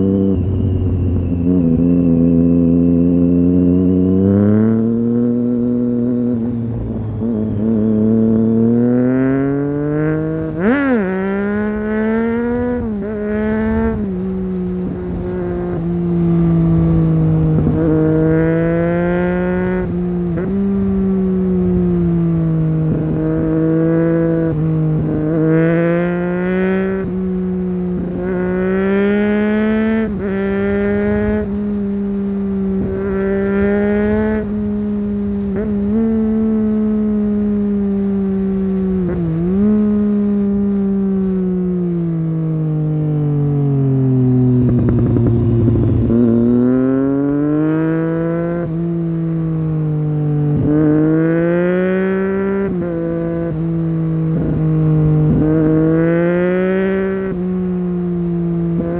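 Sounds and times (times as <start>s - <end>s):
wind noise: 0.0s - 42.3s, 44.4s - 49.6s
motorcycle engine revving: 0.0s - 58.9s.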